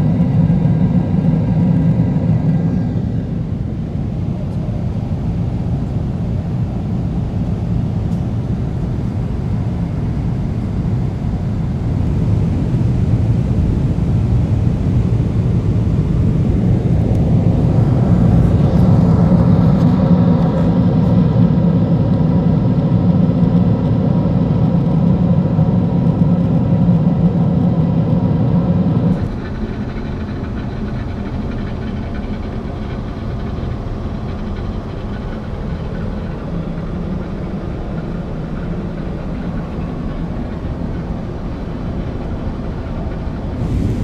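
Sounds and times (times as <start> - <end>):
airplane cabin noise: 0.0 - 44.0
dull hum in lavatory: 0.0 - 44.0.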